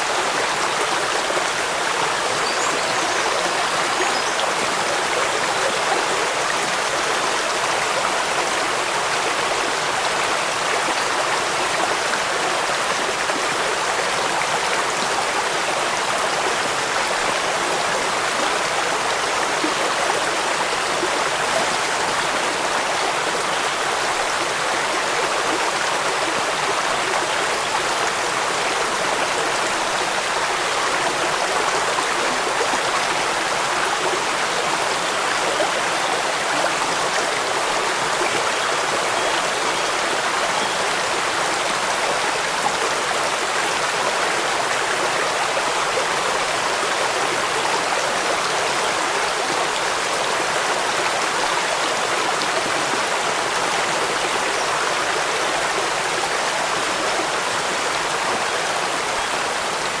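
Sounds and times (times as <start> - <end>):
stream running over rocks: 0.0 - 60.0.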